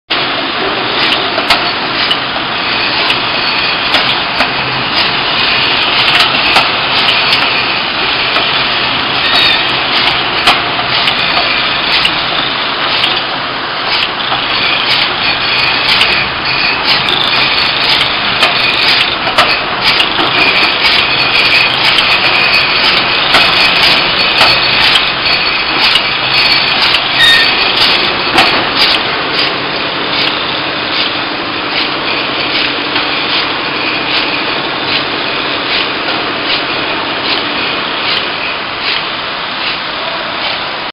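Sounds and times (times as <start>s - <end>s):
bottling machine clicking and clattering: 0.9s - 39.8s.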